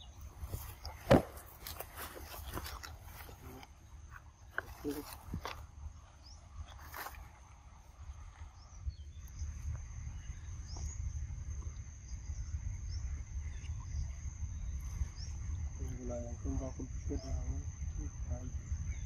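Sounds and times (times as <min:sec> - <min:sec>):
bird chirps: 0:00.0 - 0:19.0
insects droning: 0:00.0 - 0:19.0.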